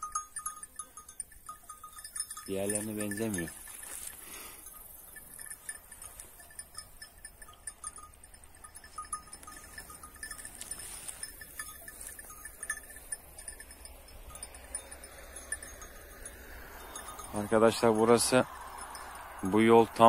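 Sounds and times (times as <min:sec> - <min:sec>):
sheep bells tinkling: 0:00.0 - 0:20.0.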